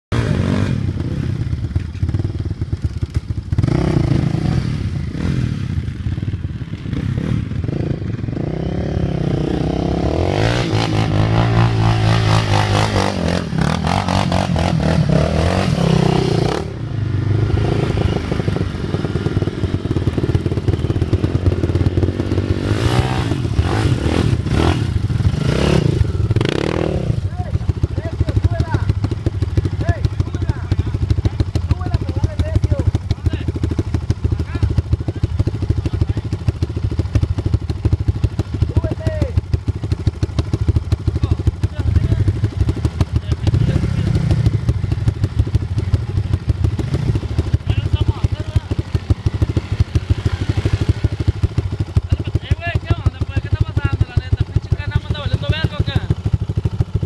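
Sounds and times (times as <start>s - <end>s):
quad engines revving: 0.1s - 57.0s.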